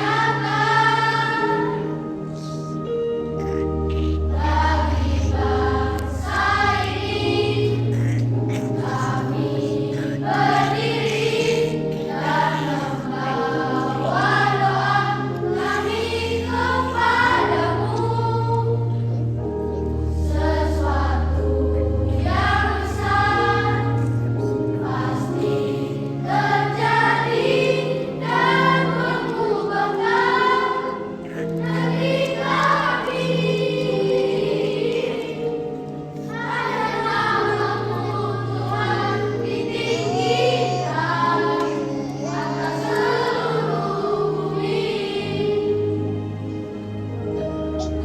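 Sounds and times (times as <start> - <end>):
children's choir singing a hymn: 0.0 - 48.0.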